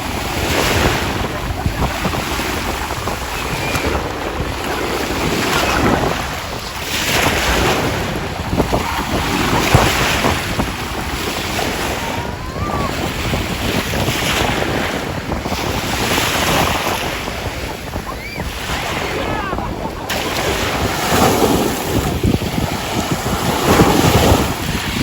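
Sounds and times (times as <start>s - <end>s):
sea waves washing on shore: 0.0s - 25.0s
wind buffeting microphone: 0.0s - 25.0s.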